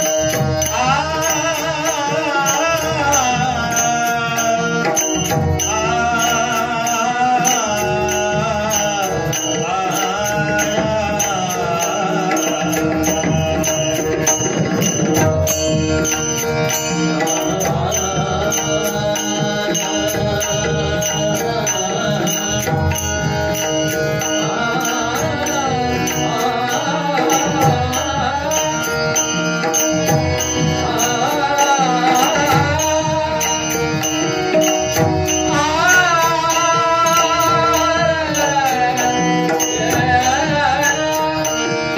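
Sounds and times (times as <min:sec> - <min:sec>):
man singing: 0:00.0 - 0:41.9
hand drum: 0:07.6 - 0:41.3.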